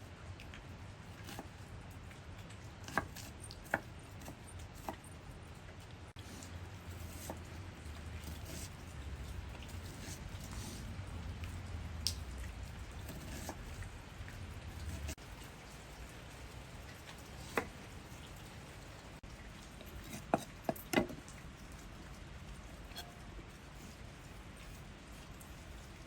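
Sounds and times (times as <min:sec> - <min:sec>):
rain patter: 0:00.0 - 0:26.0.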